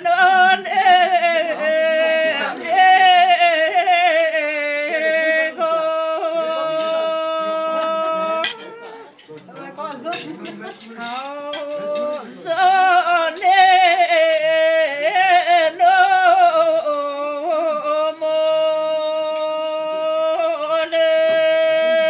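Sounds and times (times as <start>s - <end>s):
elderly woman singing solo: 0.0s - 9.0s, 11.0s - 22.0s.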